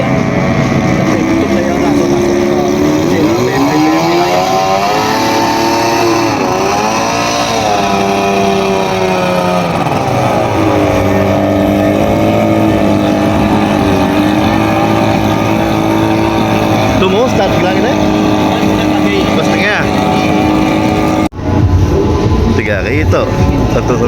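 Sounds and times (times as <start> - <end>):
outboard engine revving: 0.0 - 24.0.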